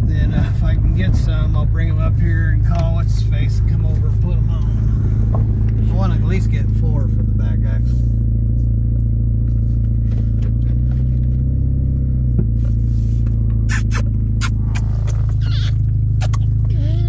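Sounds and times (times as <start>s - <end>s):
car engine and road drone: 0.0s - 17.0s.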